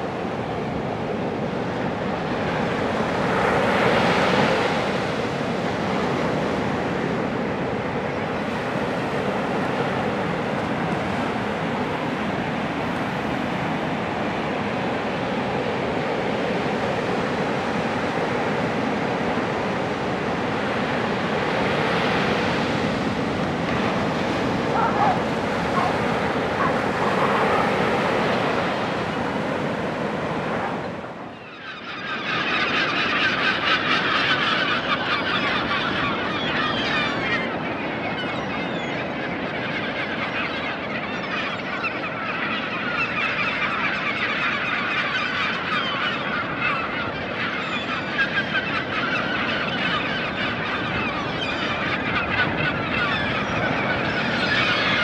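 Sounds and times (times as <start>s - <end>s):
seabirds calling: 0.0s - 55.0s
wind: 0.0s - 55.0s.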